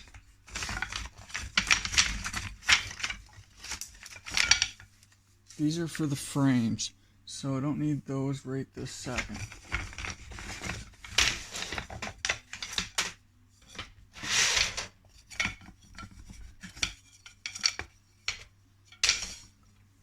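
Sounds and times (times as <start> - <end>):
beehive parts clattering: 0.0 - 6.9, 8.8 - 20.0.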